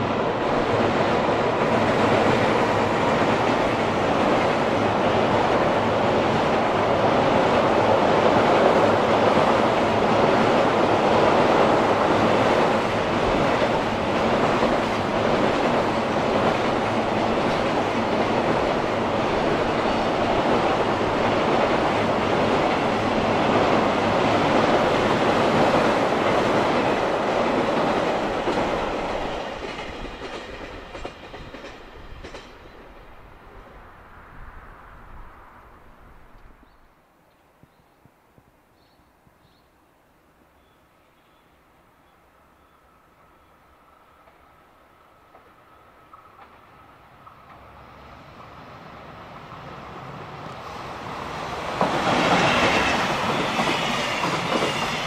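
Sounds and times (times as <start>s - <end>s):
train wheels on bridge rails: 0.0s - 33.7s, 43.8s - 55.0s.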